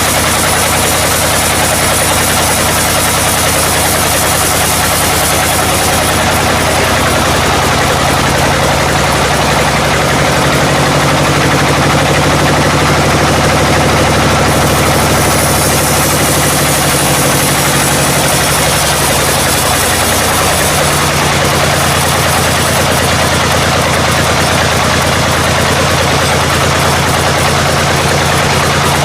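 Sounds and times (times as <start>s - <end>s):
engine drone: 0.0s - 29.0s.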